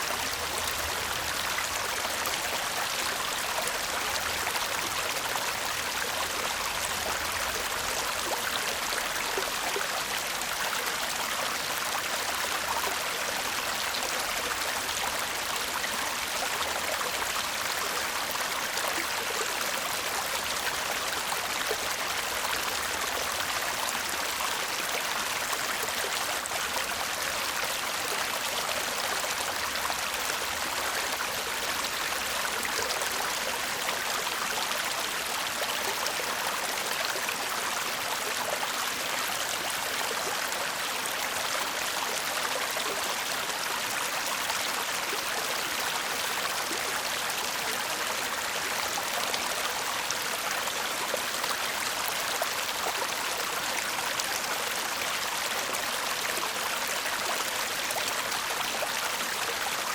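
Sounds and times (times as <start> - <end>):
stream babbling over stones: 0.0 - 59.9.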